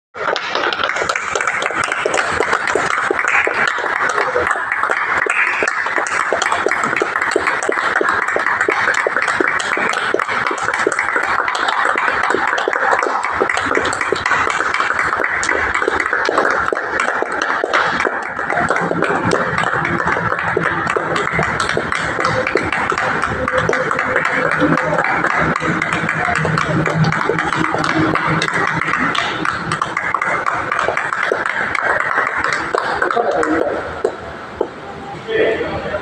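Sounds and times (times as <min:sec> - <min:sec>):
chatter of voices: 0:02.6 - 0:36.0.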